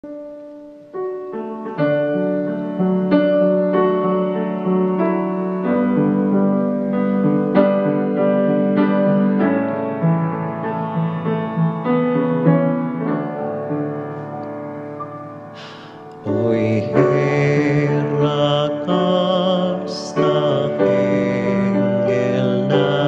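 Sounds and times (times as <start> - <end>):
grand piano playing hymn: 0.0 - 23.0.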